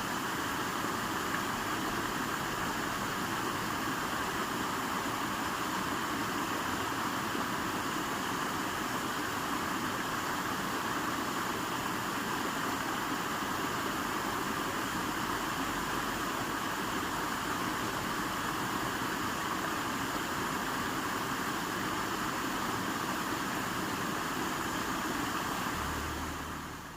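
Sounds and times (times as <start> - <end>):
river water rushing: 0.0 - 26.9.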